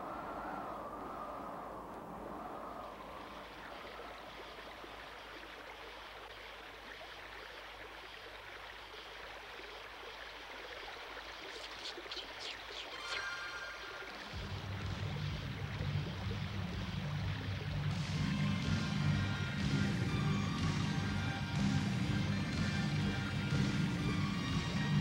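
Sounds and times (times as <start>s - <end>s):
stream and waterfall flowing: 2.3s - 25.0s.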